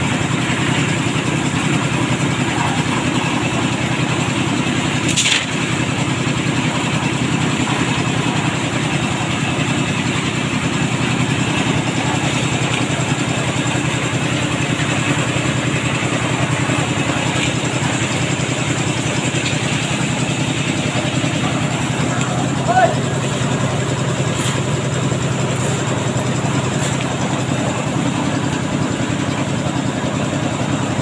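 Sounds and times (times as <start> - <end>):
concrete mixer running: 0.0 - 31.0.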